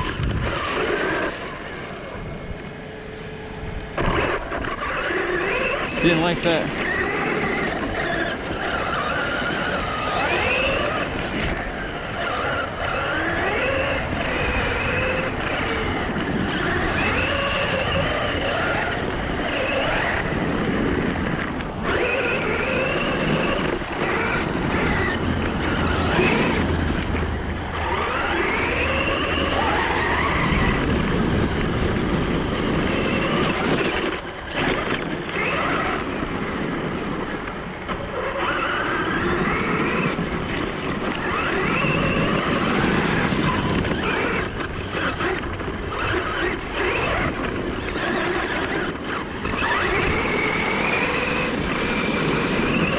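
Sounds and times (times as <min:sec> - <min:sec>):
electric motor whining: 0:00.0 - 0:52.9
toy truck rumbling on dirt: 0:00.0 - 0:52.9.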